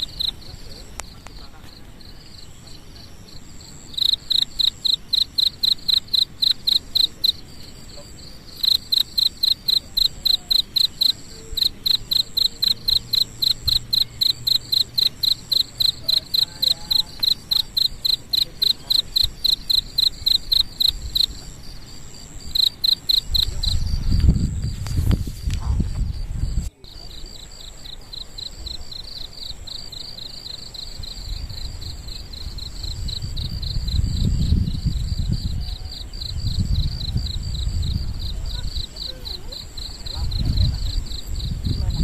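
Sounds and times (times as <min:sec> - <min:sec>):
cricket chirping: 0:00.0 - 0:42.0.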